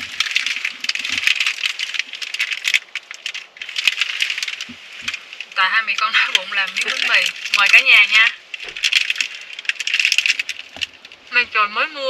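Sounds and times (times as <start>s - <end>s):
plastic wrapping crackling: 0.0s - 12.0s.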